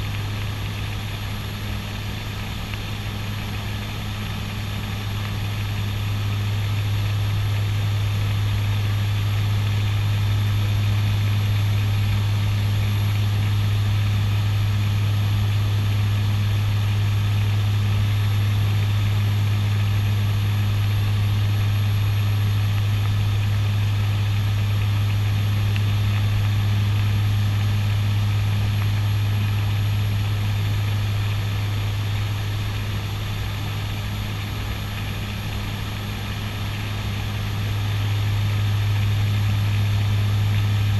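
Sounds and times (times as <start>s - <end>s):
propeller drone: 0.0s - 40.9s.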